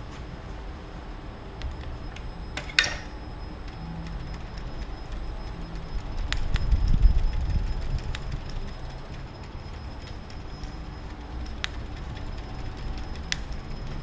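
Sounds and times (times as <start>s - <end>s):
bicycle freewheel ticking: 1.6s - 14.0s.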